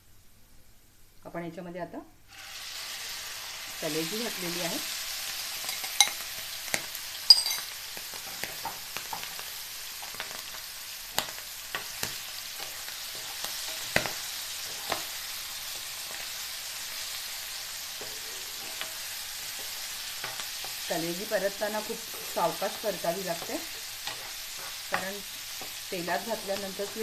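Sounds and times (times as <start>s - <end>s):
liver sizzling in hot oil: 2.3s - 27.0s
spoon turning food in pan: 5.3s - 27.0s.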